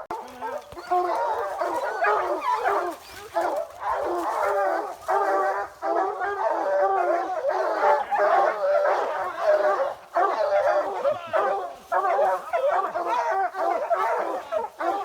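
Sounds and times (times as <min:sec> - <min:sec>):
hounds baying and barking: 0:00.0 - 0:15.0.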